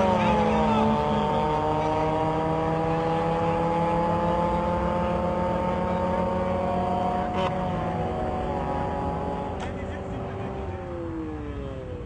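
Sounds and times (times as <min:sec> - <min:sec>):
racing car engines at full throttle: 0:00.0 - 0:12.0.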